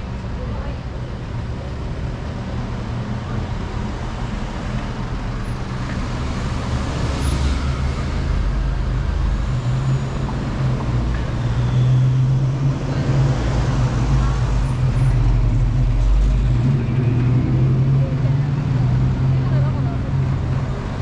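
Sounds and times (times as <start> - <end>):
car engines passing: 0.0 - 21.0.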